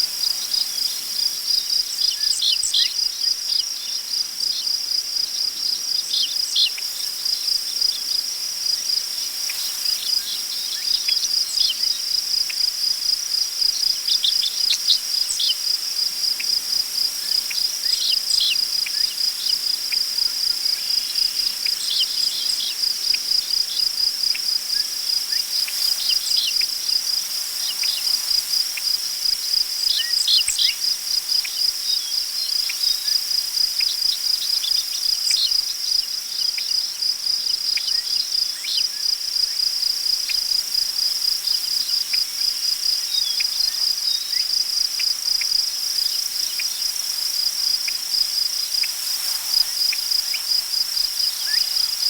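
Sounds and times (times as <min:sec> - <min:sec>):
crickets chirping: 0:00.0 - 0:52.0.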